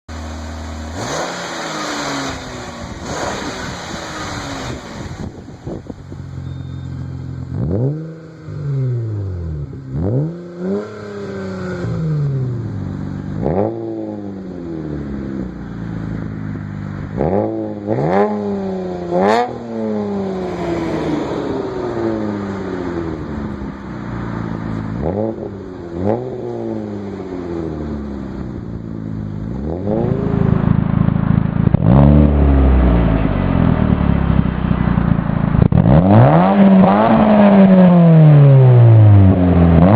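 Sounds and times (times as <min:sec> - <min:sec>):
car engine revving: 0:00.1 - 0:39.9.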